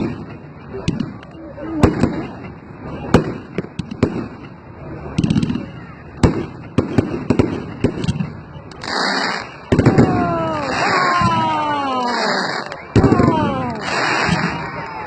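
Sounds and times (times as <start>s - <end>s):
firework bangs: 0.0s - 1.2s, 1.8s - 15.0s
firework crackling: 0.0s - 15.0s.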